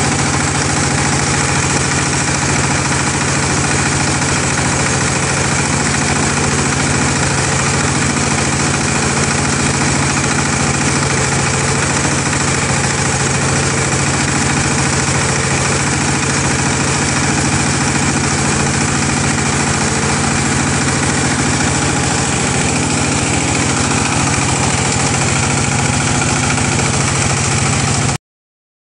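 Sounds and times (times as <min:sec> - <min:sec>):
diesel engine running under load: 0:00.0 - 0:28.2
pellet mill mechanical noise: 0:00.0 - 0:28.2.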